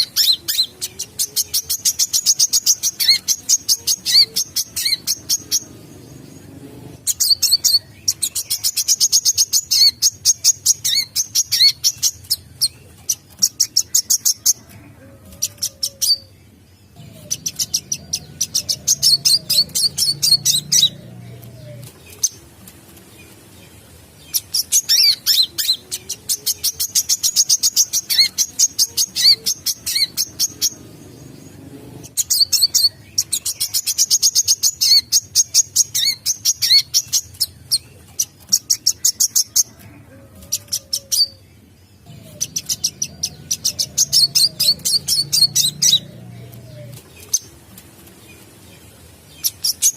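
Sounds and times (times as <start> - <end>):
bird singing rapid high chirps: 0.0 - 14.6, 16.0 - 21.2, 24.3 - 39.6, 41.2 - 47.5.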